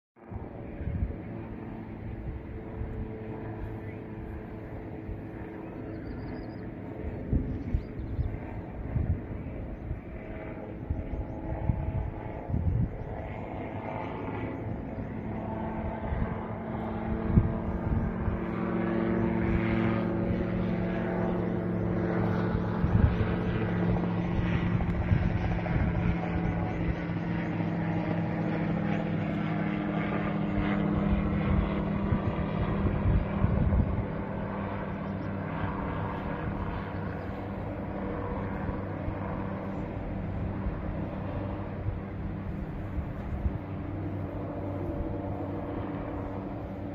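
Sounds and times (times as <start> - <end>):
engine drone: 0.2 - 46.9.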